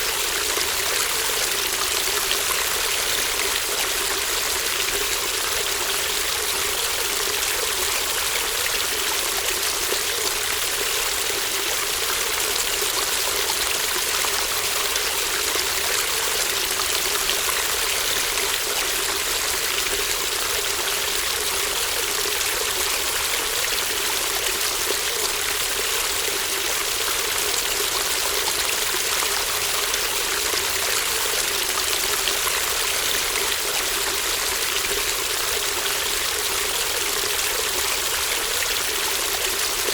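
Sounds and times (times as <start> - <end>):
shallow stream babbling: 0.0 - 39.9.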